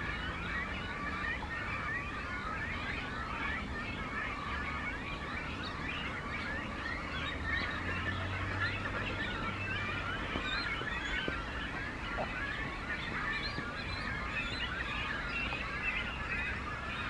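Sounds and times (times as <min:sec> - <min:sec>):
cormorant colony calling: 0:00.0 - 0:17.0.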